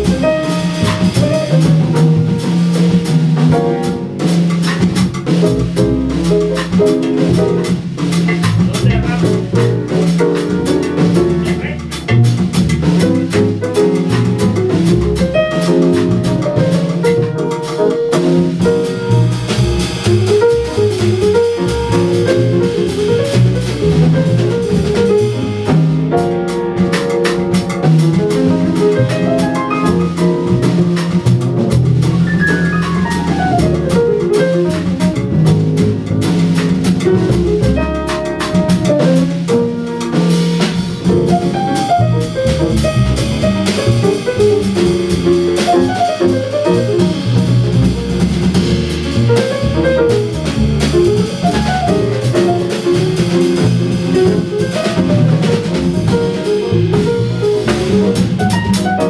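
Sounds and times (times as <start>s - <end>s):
grand piano: 0.0s - 59.0s
walking double bass: 0.0s - 59.0s.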